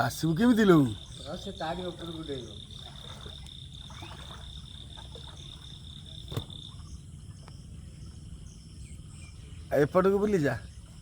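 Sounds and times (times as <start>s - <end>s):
frogs trilling: 0.0s - 11.0s.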